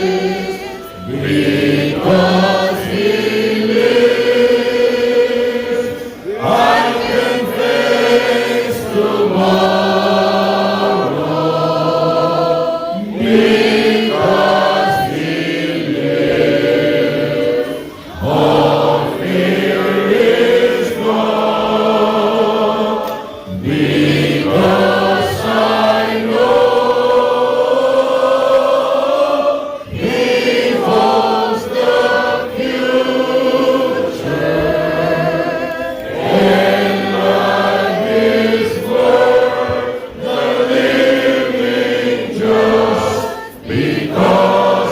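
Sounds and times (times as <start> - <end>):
group singing a hymn: 0.0 - 44.9.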